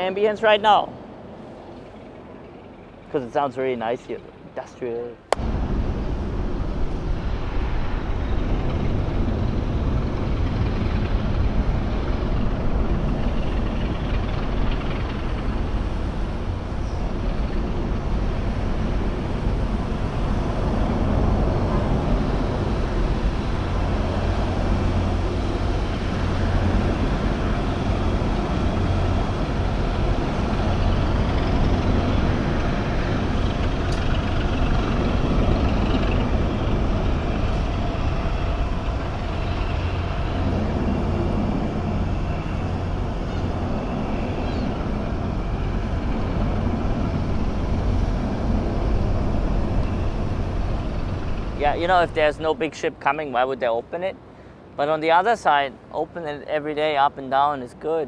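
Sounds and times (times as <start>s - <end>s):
heavy road traffic rumble: 0.0s - 57.9s
strong low hum: 5.3s - 52.6s.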